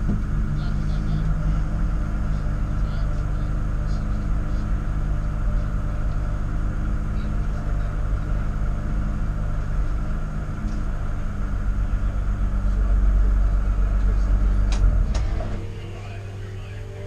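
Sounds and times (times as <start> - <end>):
engine running hard: 0.0 - 17.0.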